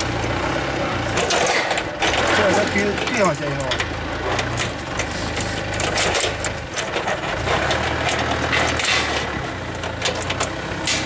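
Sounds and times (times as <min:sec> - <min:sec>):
cable connectors clicking and rattling: 0:01.2 - 0:11.0.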